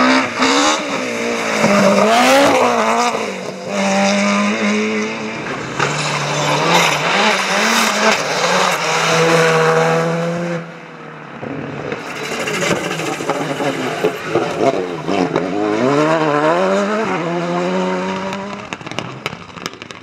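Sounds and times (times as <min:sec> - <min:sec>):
turbocharged engine pulling hard: 0:00.0 - 0:10.7, 0:11.6 - 0:19.8
rally car engine revving: 0:00.0 - 0:19.7.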